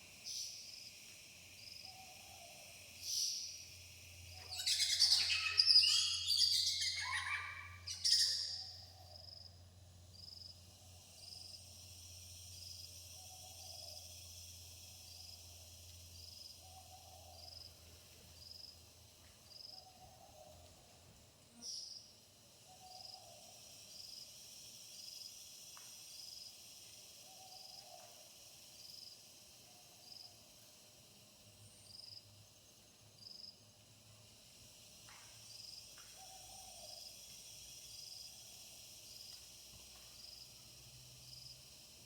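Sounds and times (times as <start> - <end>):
insects trilling: 0.0 - 42.0
short high insect chirp: 0.1 - 20.6, 21.5 - 42.0.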